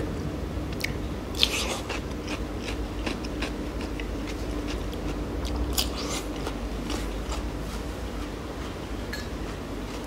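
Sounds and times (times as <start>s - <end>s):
chewing and crunching food: 0.8s - 10.0s.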